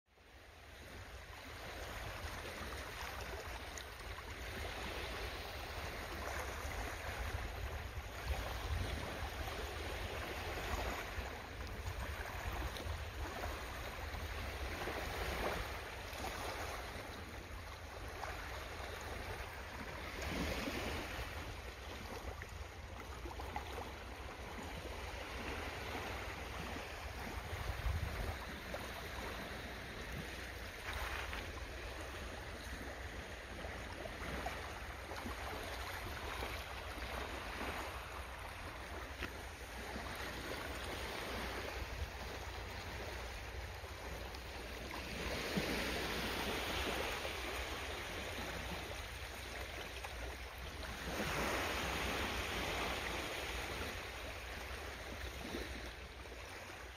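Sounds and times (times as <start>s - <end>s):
rushing water: 0.2s - 56.9s.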